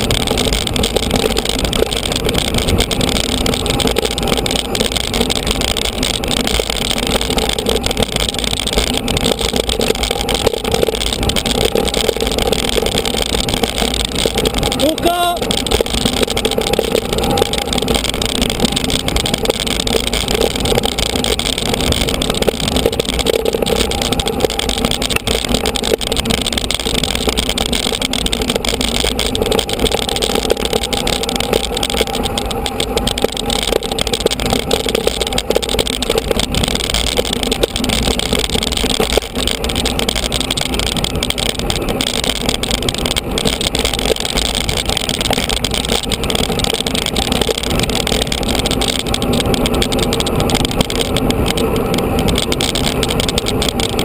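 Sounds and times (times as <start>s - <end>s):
bike clicks: 0.0s - 54.0s
bike riding rumble: 0.0s - 54.0s.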